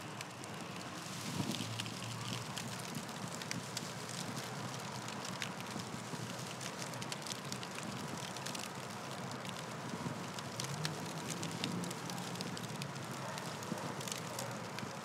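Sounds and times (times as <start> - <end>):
crackling hiss with clicks: 0.0 - 15.0.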